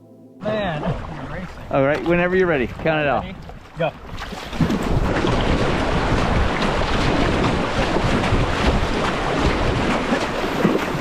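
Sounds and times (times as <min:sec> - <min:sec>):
paddles splashing water: 0:00.0 - 0:11.0
wind buffeting microphone: 0:00.4 - 0:11.0.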